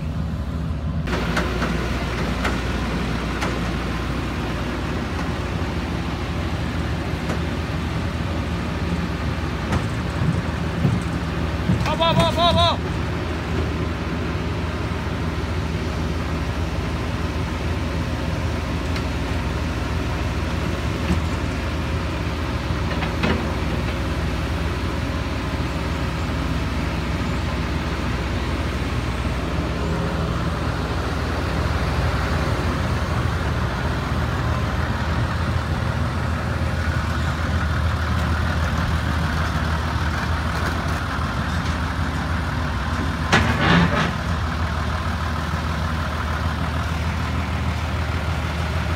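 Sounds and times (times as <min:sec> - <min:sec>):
heavy diesel machinery engine: 0:00.0 - 0:48.9.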